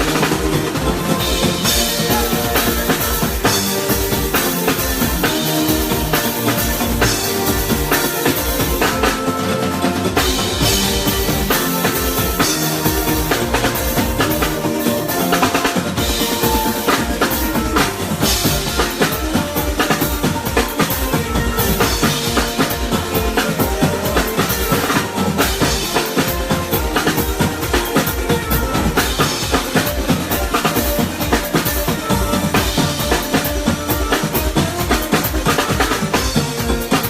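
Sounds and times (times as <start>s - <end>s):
drum kit: 0.0s - 37.0s
live band playing: 0.0s - 37.0s.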